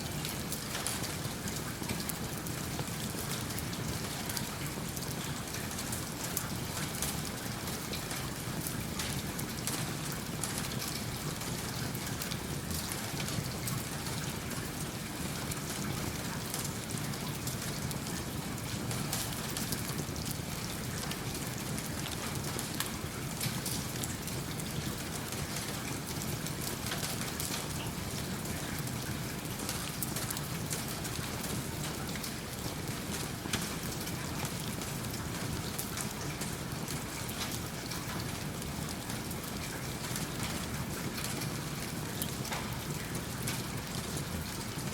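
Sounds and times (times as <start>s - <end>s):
steady rain: 0.0s - 44.9s
wood fire crackling: 0.1s - 44.9s.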